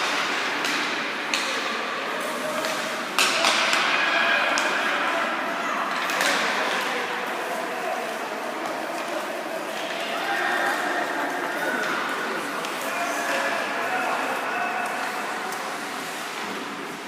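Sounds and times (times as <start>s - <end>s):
people chattering in echoing hall: 0.0s - 17.0s.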